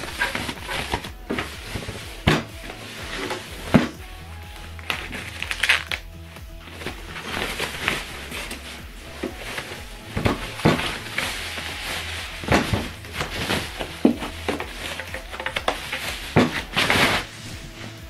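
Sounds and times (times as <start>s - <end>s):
foam and plastic bag rustling: 0.0s - 18.0s.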